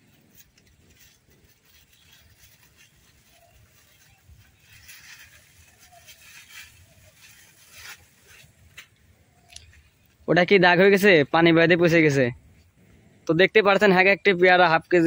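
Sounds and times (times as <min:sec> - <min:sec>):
leaves rustling and crackling: 0:00.0 - 0:12.8.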